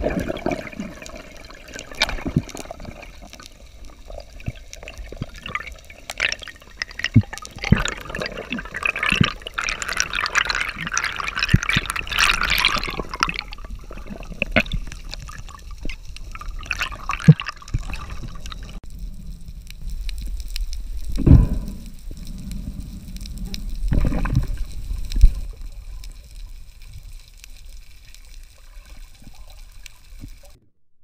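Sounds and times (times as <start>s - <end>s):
water rushing and bubbling: 0.0s - 30.6s.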